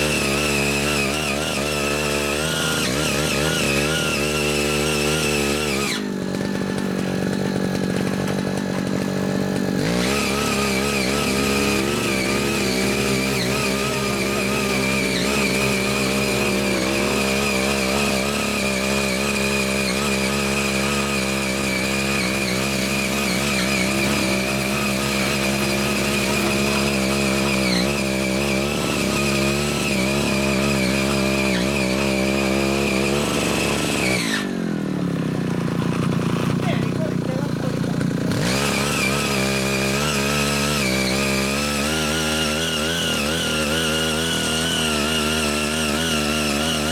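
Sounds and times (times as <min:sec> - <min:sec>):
tiller engine running: 0:00.0 - 0:46.9.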